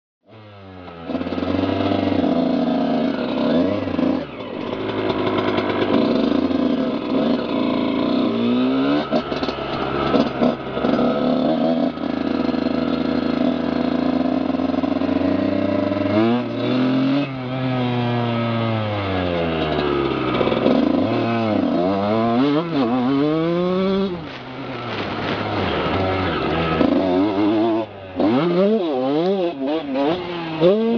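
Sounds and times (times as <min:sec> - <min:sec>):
motocross bike engine revving: 0:00.3 - 0:30.9.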